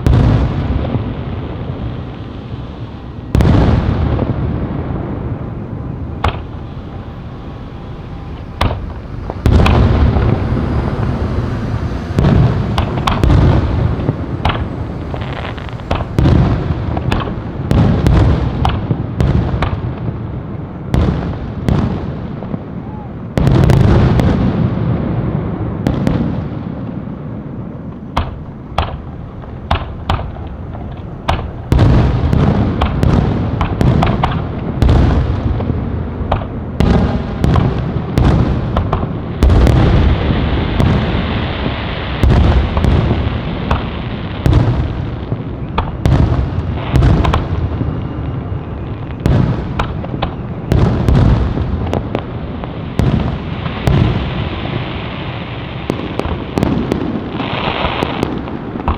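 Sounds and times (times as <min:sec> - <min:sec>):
fireworks exploding: 0:00.0 - 0:58.9.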